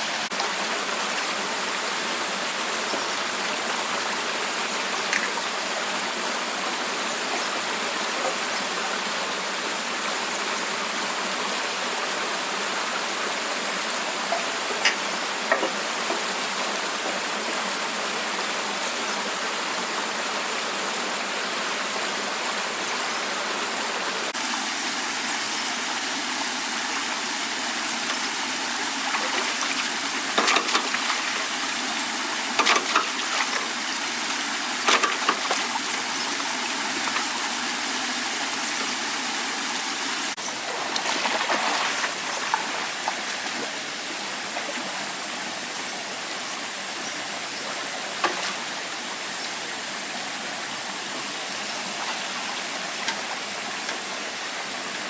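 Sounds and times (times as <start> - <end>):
rushing water hiss: 0.0 - 55.0.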